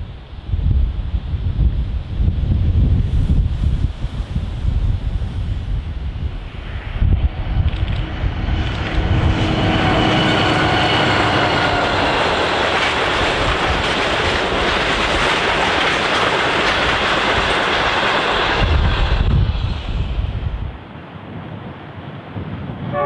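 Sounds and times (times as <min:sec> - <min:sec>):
train wheels rumbling on rails: 0:00.6 - 0:20.8.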